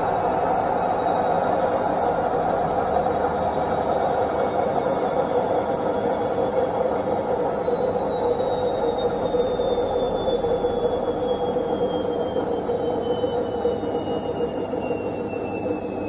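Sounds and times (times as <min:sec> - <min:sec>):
washing machine spin rumble: 0:00.0 - 0:16.0.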